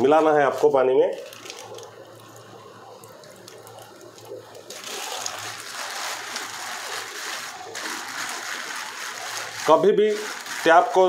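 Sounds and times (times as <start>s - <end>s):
plastic bag crinkling: 0.2s - 11.0s
tap water running: 1.2s - 11.0s.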